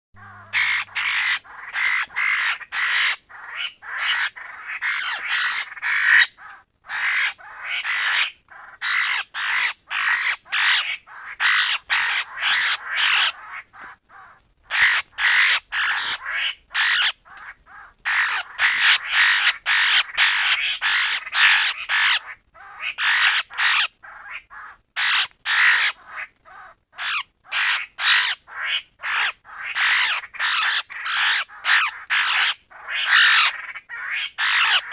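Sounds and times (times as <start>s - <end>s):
bird harsh repeated calls: 0.2s - 34.9s.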